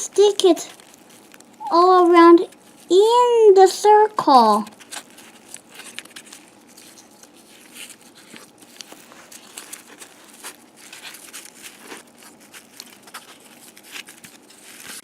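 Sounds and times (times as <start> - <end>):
sticky tack rustling and crinkling: 0.0 - 15.0.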